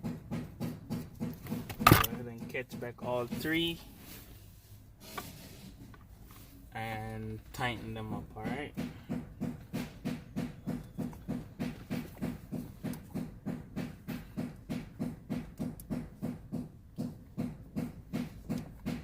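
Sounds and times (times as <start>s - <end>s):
mechanical rhythm of low pulses: 0.0s - 4.1s, 5.8s - 19.0s.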